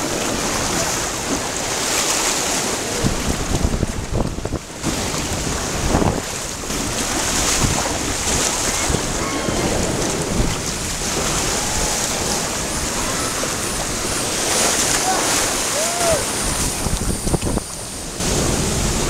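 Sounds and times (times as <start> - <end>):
water rushing down slide: 0.0 - 19.0
wind buffeting microphone: 0.0 - 19.0.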